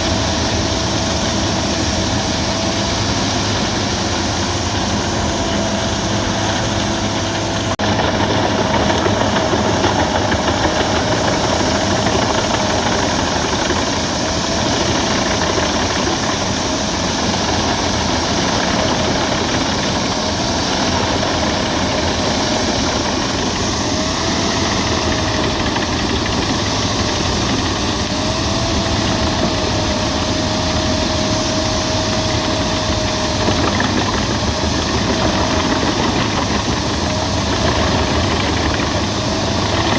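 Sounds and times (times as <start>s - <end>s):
wood chipper chipping branches: 0.0s - 39.9s.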